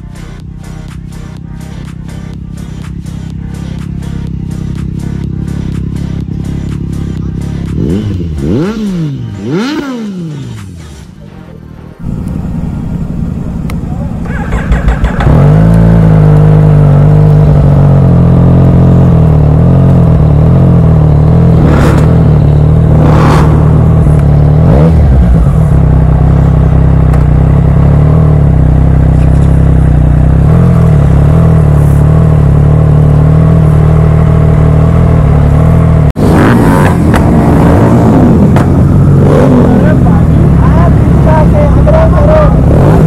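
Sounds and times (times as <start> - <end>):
motorcycle engine idling: 0.0 - 36.1, 38.0 - 42.9.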